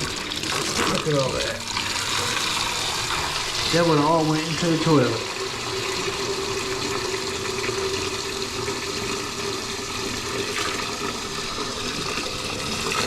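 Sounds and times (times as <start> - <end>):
water running into a bucket: 0.0 - 13.0.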